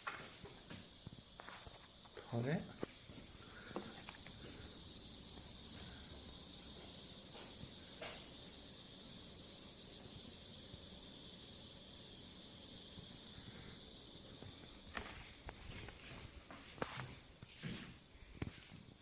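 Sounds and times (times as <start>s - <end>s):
faint high hiss: 0.0s - 19.0s.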